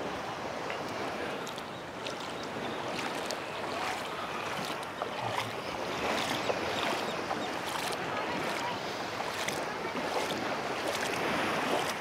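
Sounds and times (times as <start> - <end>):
gentle surf: 0.0 - 12.0.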